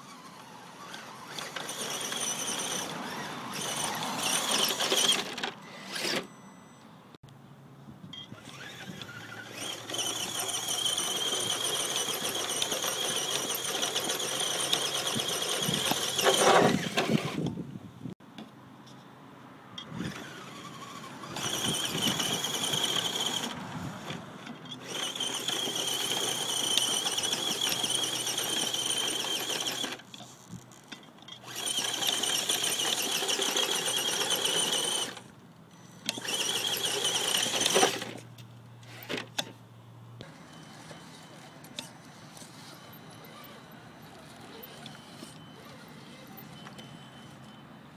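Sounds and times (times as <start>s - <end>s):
toy car motor whining: 0.0s - 6.4s, 8.3s - 17.6s, 19.8s - 38.2s, 40.3s - 47.4s.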